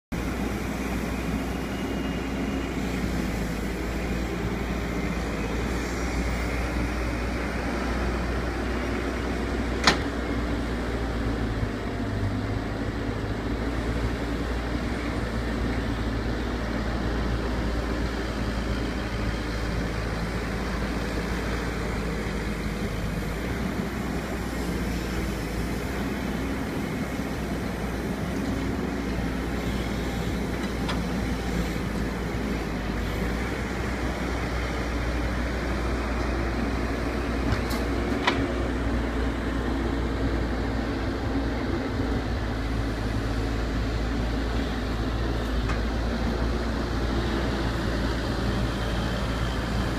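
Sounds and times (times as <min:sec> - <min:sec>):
excavator diesel engine running: 0:00.1 - 0:49.9.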